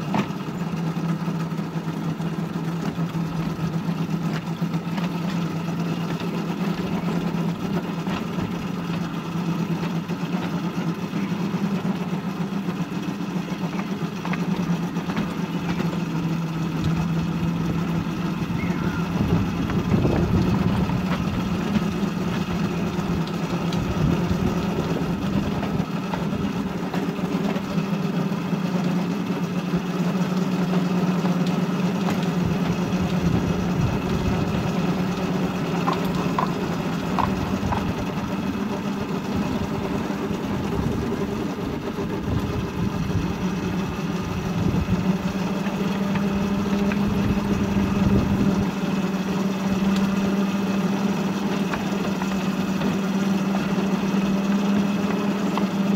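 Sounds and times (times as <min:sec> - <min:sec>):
small engine running steadily: 0:00.0 - 0:55.9.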